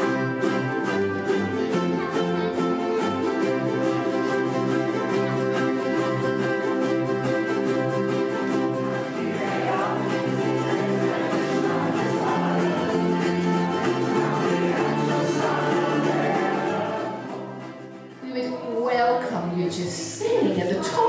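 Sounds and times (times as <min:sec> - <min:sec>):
live acoustic music with voices: 0:00.0 - 0:21.0.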